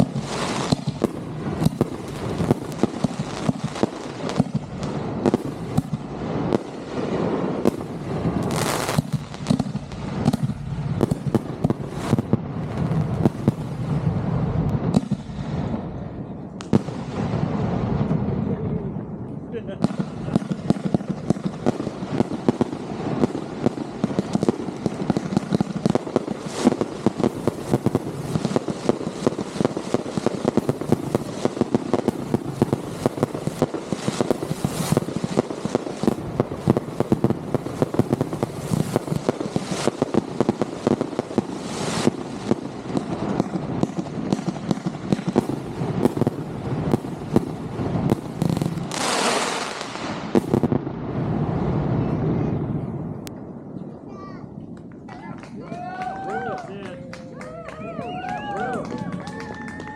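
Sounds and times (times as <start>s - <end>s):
rising firework whoosh: 0.0s - 19.2s, 19.8s - 54.1s
fireworks crackling and banging: 0.0s - 59.9s.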